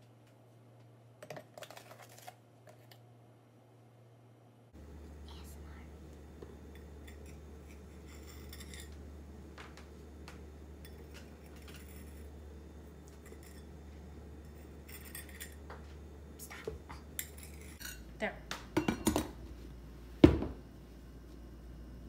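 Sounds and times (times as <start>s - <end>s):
steady low hum: 2.4s - 22.0s.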